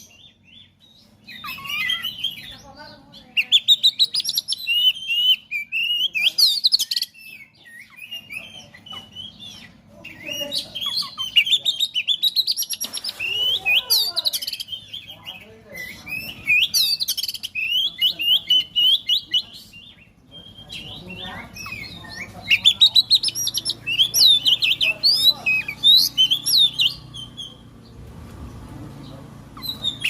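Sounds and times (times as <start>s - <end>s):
bird singing whistled song: 3.4s - 9.7s, 10.3s - 27.7s, 29.6s - 30.0s.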